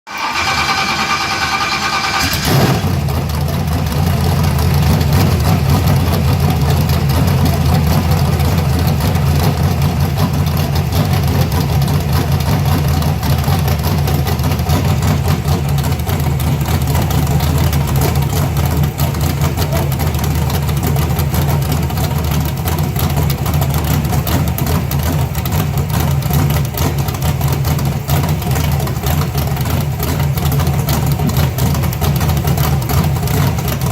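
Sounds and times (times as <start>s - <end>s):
engine idling: 0.1s - 33.9s.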